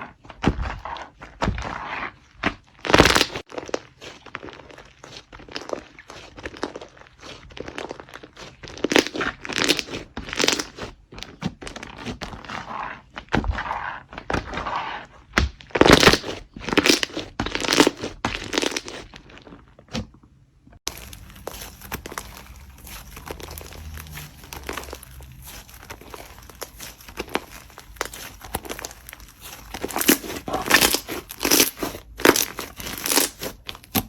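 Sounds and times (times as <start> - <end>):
hands squishing slime: 0.0 - 20.1, 20.8 - 34.0.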